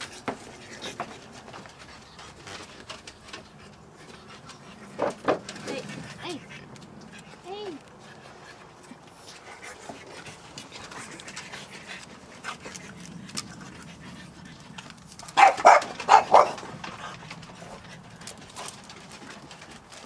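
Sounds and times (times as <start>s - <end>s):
puppy panting: 0.0s - 20.0s.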